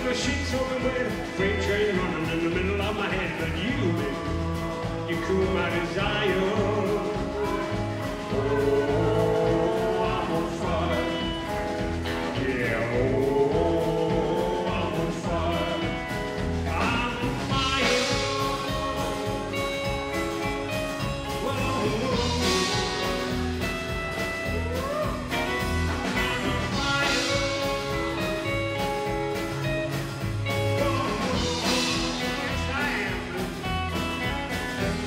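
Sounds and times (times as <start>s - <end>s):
live rockabilly band playing: 0.0s - 35.0s.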